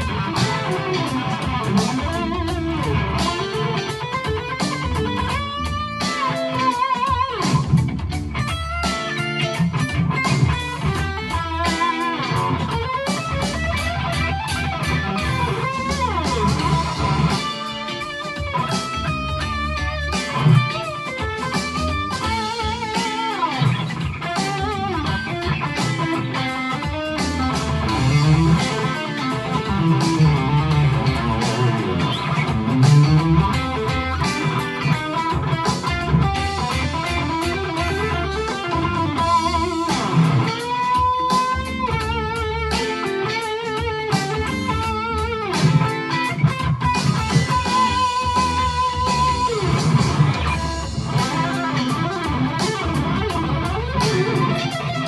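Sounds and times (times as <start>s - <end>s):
electric guitar lead lines: 0.0s - 55.0s
funky bluesy backing track: 0.0s - 55.0s.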